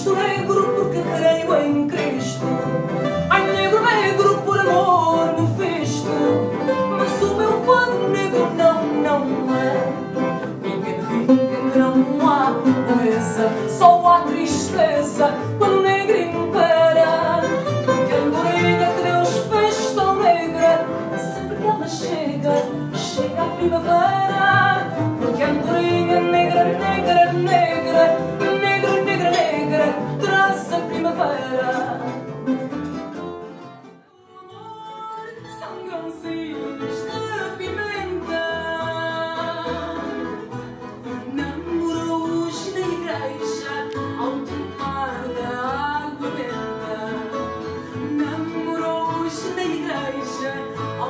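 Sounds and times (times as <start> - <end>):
person singing: 0.0 - 32.4, 34.1 - 51.0
guitar accompaniment: 0.0 - 51.0.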